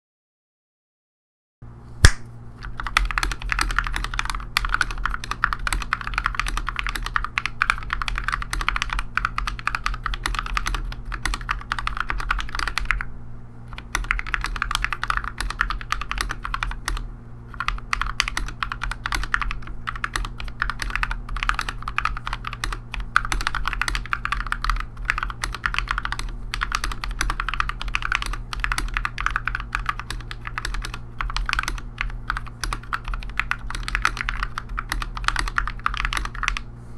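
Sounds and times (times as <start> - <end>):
mechanical keyboard typing: 2.6 - 13.1, 13.7 - 36.7.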